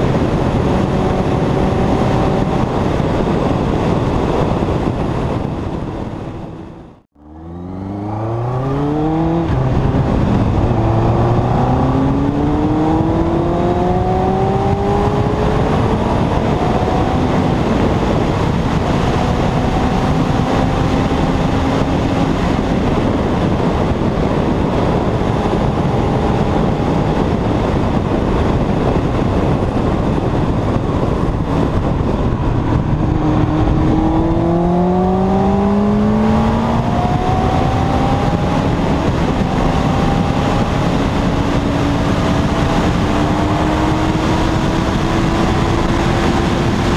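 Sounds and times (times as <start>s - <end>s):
motorcycle engine accelerating: 0.0s - 46.9s
wind rush on microphone: 0.0s - 46.9s.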